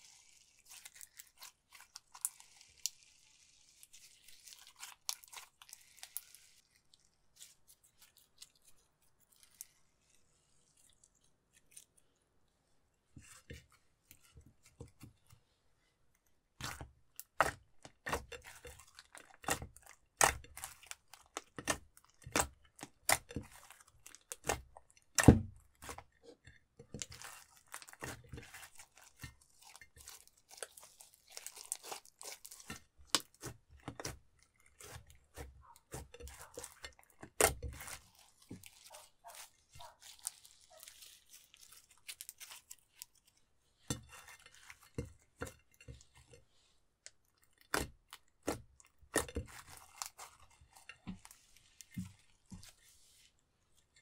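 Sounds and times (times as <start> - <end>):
slime crackling and squelching: 0.0 - 12.4, 16.4 - 54.0.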